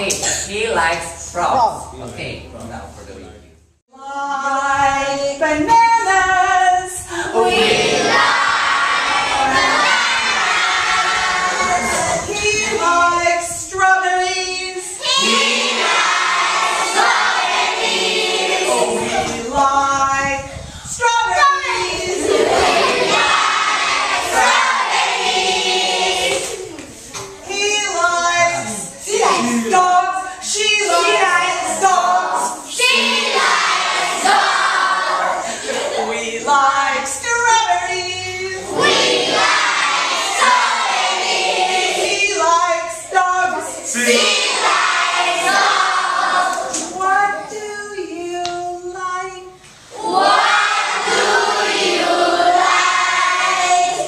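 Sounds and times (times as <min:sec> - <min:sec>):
children singing and chanting: 0:04.0 - 0:54.0.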